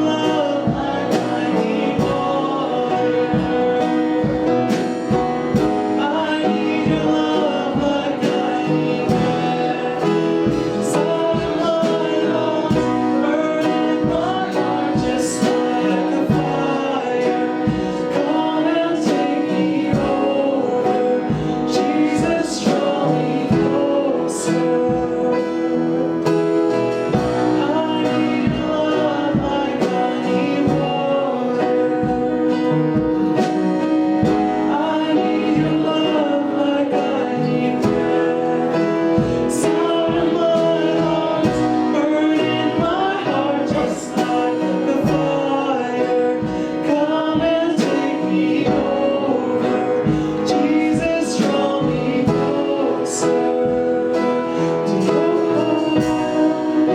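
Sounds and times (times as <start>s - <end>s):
acoustic guitar: 0.0s - 56.9s
person singing: 0.0s - 56.9s.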